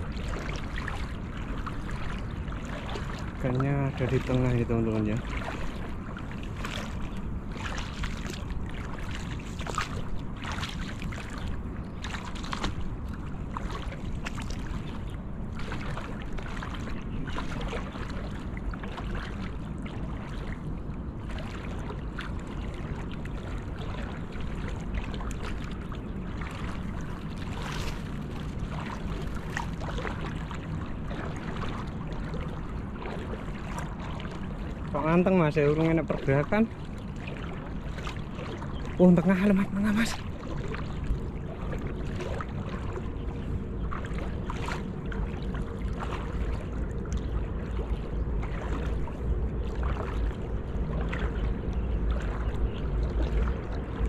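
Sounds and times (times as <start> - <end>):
wading steps splashing water: 0.0 - 54.0
wind rumble on microphone: 0.0 - 54.0.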